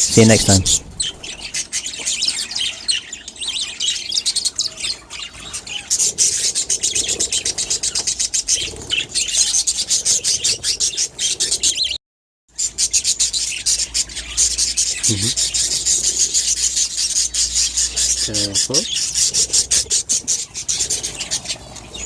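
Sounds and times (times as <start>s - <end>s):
budgies chirping and chattering: 0.0s - 22.0s.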